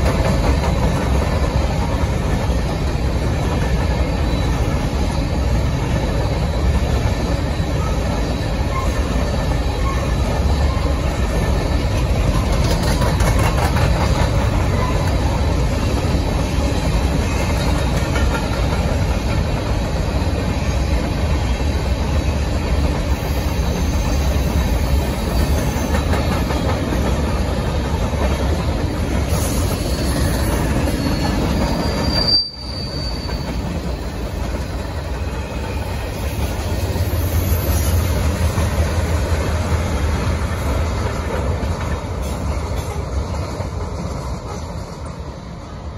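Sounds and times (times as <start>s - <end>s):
freight train rumbling: 0.0s - 45.9s
train wheel squeal: 0.0s - 45.9s.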